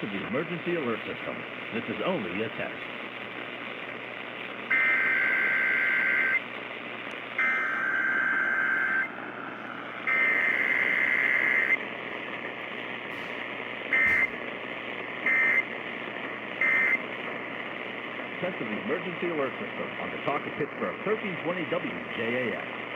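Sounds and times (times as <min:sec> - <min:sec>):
radio static: 0:00.0 - 0:22.9.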